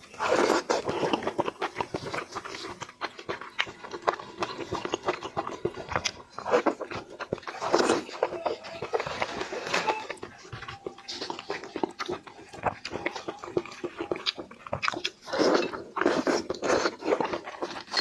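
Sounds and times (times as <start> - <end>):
wet smacking and chewing: 0.0 - 18.0.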